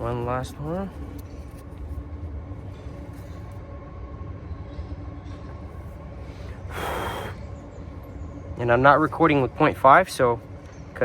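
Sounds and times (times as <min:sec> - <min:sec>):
faint steady hum: 0:00.0 - 0:11.0
low background rumble: 0:00.0 - 0:11.0.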